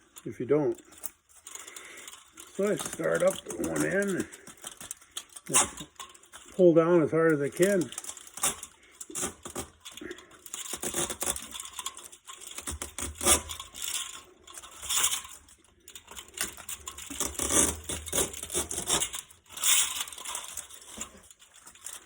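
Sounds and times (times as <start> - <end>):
aluminum fins tearing off tubing: 0.0 - 6.6, 7.3 - 22.0.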